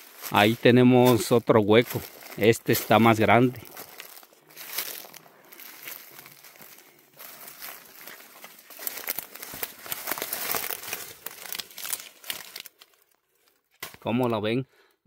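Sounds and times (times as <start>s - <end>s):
footsteps crunching on stones: 0.0s - 14.2s.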